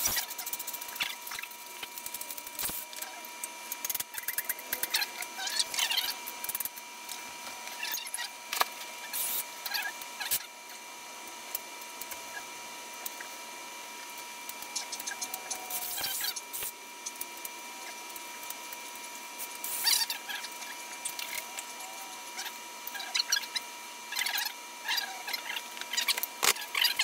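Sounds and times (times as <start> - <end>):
high-pitched whine: 0.0 - 27.0.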